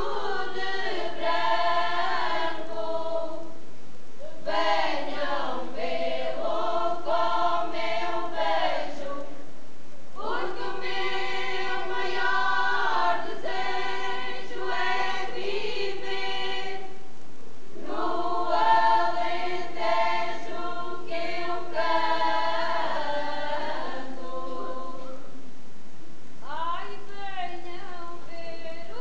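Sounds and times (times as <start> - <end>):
women's choir singing unaccompanied: 0.0 - 3.6, 4.2 - 9.5, 10.1 - 17.1, 17.7 - 25.4, 26.4 - 29.0.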